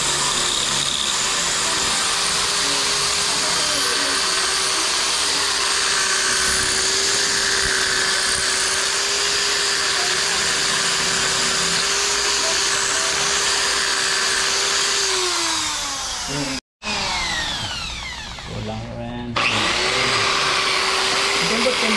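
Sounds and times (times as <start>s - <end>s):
electric drill running: 0.0s - 18.7s, 19.4s - 21.9s.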